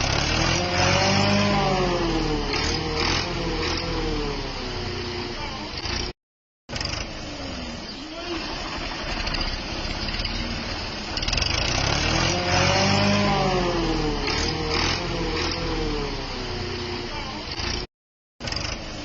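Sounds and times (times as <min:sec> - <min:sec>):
tractor diesel engine revving: 0:00.0 - 0:19.0.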